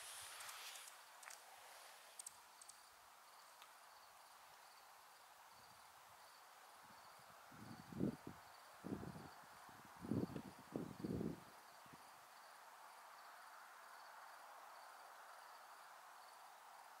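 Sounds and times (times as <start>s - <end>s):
background hiss: 0.0s - 17.0s
insect chirping: 0.0s - 17.0s.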